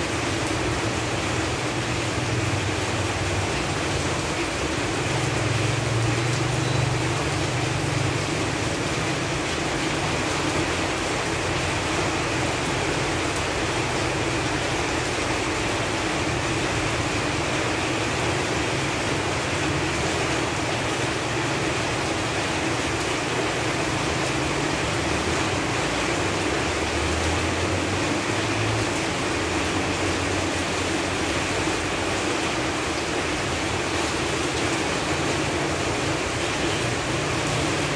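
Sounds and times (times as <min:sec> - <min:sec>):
rain falling on leaves: 0:00.0 - 0:37.9.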